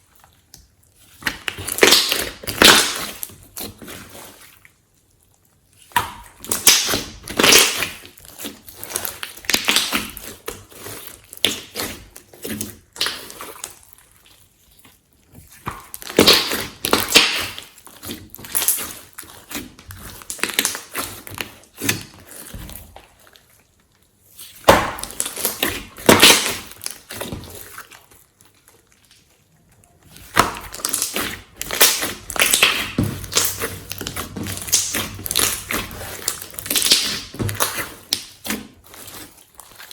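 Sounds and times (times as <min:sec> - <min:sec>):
hands squishing slime: 0:00.0 - 0:23.7, 0:24.3 - 0:39.9.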